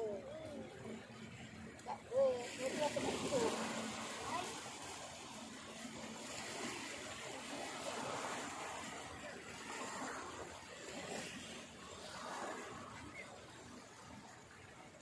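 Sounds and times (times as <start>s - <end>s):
water washing and splashing: 0.0s - 15.0s.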